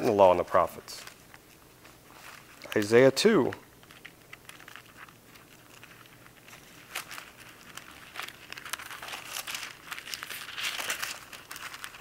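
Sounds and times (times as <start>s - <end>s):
pages being turned: 0.6s - 12.0s.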